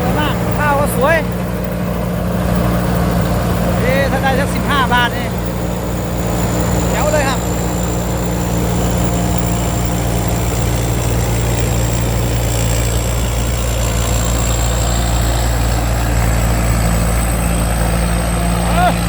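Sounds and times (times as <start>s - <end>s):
combine harvester engine drone: 0.0s - 19.0s
thin high whine: 0.0s - 19.0s.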